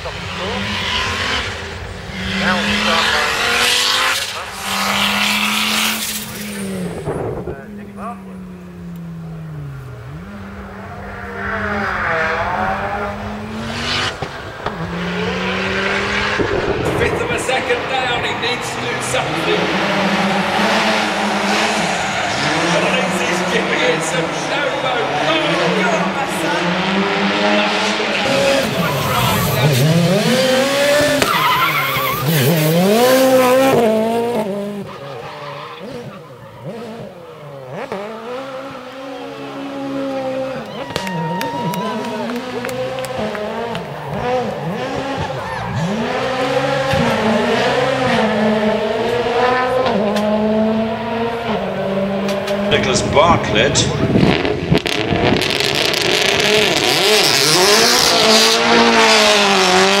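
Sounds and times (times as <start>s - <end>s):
rally car engine revving: 0.0s - 60.0s.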